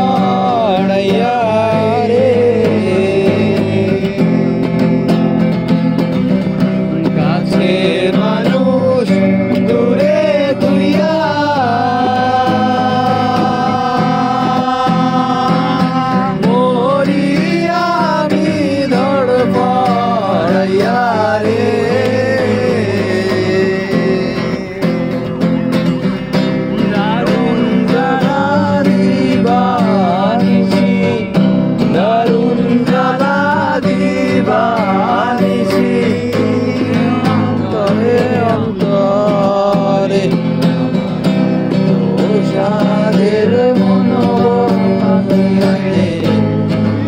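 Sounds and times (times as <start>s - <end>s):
person singing: 0.0s - 5.5s, 7.0s - 47.0s
acoustic guitar: 0.0s - 47.0s.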